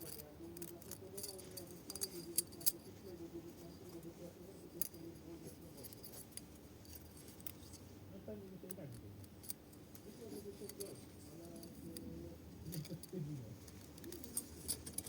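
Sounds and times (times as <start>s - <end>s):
metal parts clicking and clinking: 0.0s - 7.9s, 8.6s - 15.0s.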